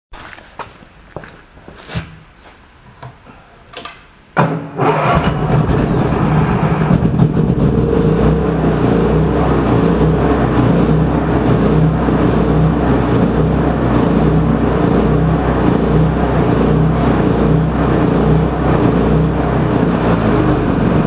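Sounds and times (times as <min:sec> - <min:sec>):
generator engine starting and running: 0:03.9 - 0:21.0.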